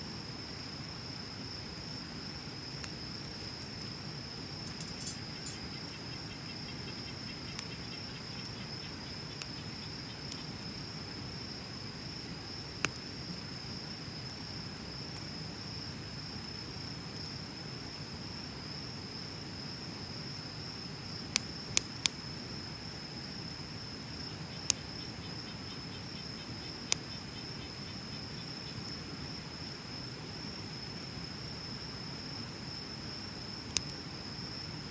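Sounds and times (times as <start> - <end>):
insect trill: 0.0 - 34.9
bonfire burning: 0.1 - 34.9
fire crackling pops: 0.3 - 18.6, 21.2 - 34.8.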